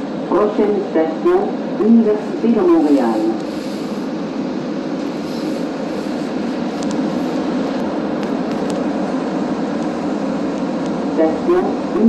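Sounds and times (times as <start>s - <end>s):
metro train rumble and hiss: 0.0s - 12.0s.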